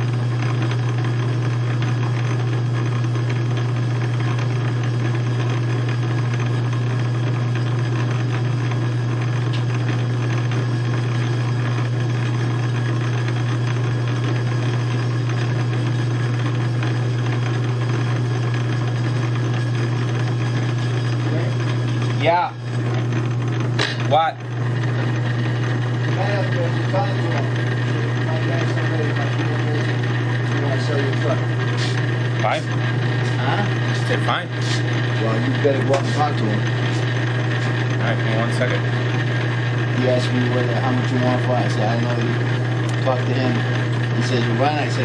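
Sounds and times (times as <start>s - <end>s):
knurling tool rasping: 0.0s - 45.0s
lathe motor hum: 0.0s - 45.0s.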